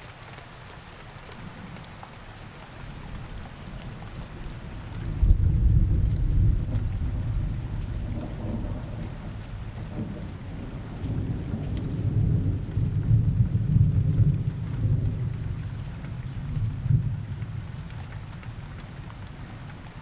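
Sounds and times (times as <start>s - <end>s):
steady rain: 0.0s - 20.0s
low rumble of thunder: 2.8s - 20.0s.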